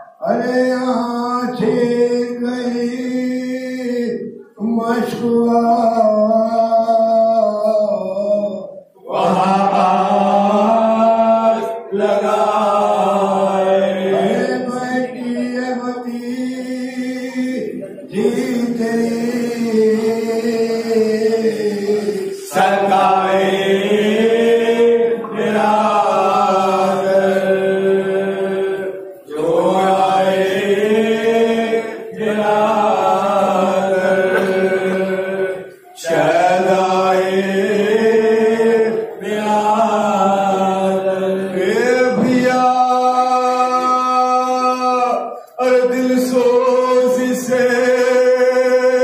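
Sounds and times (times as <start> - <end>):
men chanting a lament: 0.0 - 49.0.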